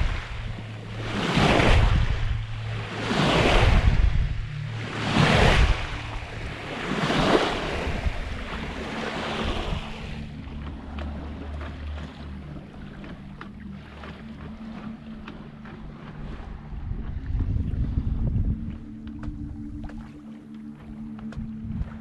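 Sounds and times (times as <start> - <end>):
wind on microphone: 0.0 - 13.3, 14.0 - 22.0
water splashing along boat hull: 0.0 - 22.0.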